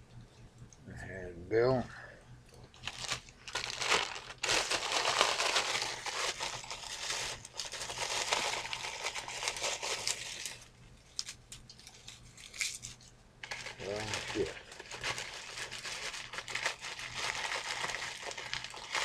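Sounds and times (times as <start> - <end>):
dry kindling crunching and crackling: 2.6 - 19.0.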